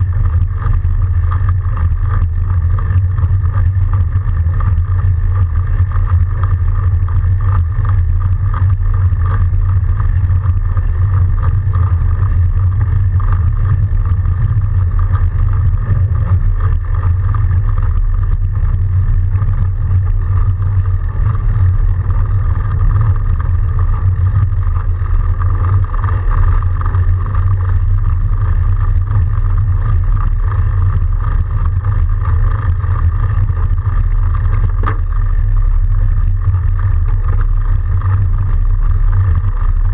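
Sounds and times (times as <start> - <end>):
bike riding through snow: 0.0 - 39.9
faint hum: 0.0 - 39.9.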